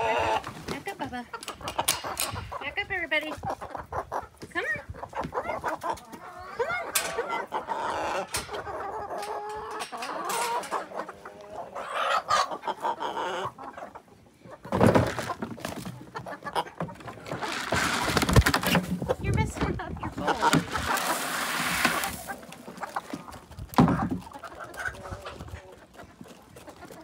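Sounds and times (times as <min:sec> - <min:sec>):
hens and rooster calling: 0:00.0 - 0:27.0.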